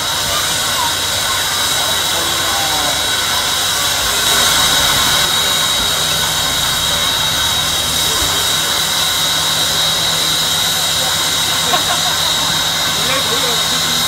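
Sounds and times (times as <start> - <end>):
steam locomotive hissing: 0.0 - 14.0
thin high whine: 0.0 - 14.0.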